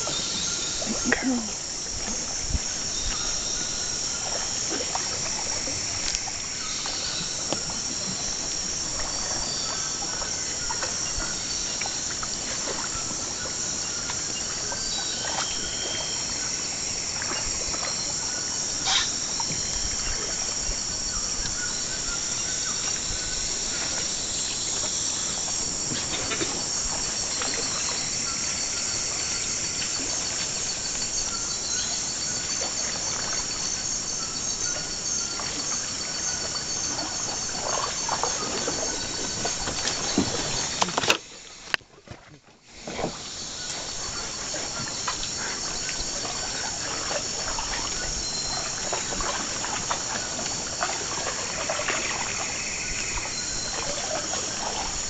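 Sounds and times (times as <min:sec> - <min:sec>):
insects buzzing and trilling: 0:00.0 - 0:55.0.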